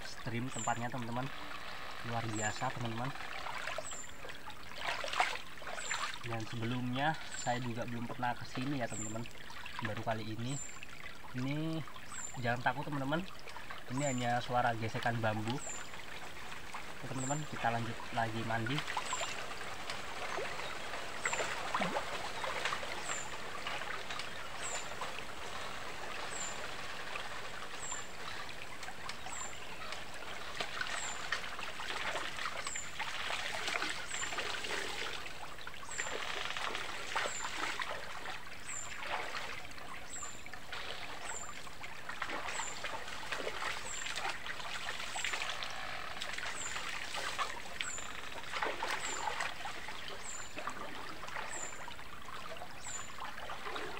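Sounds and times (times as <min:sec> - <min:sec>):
river water running: 0:00.0 - 0:53.9
water splashing: 0:00.0 - 0:53.9.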